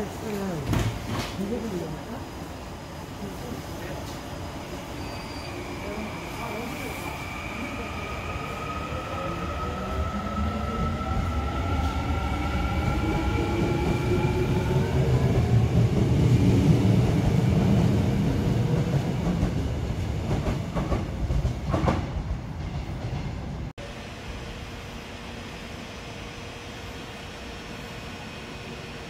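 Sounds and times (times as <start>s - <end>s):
train rumble: 0.0s - 24.8s.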